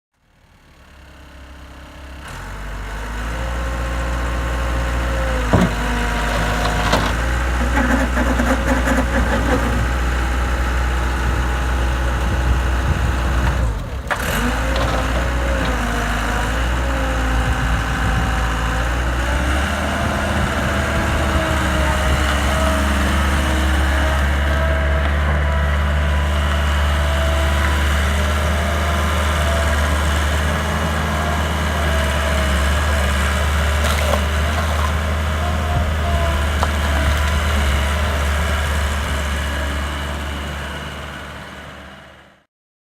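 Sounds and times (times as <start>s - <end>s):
skid steer engine idling: 0.2s - 42.4s.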